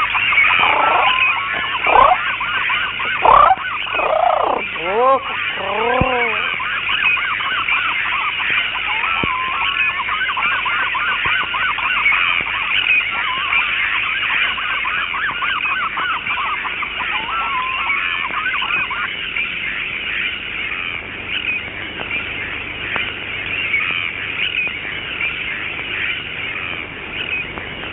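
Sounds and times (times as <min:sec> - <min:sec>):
flock of birds honking: 0:00.0 - 0:27.9.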